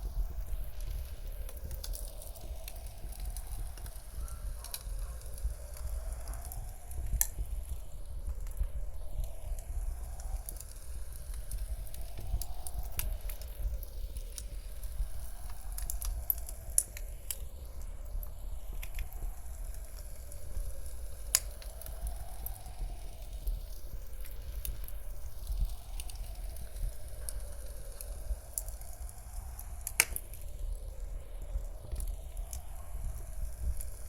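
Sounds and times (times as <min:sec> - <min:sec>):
low wind rumble: 0:00.0 - 0:34.0
wood fire crackling and popping: 0:00.0 - 0:34.0.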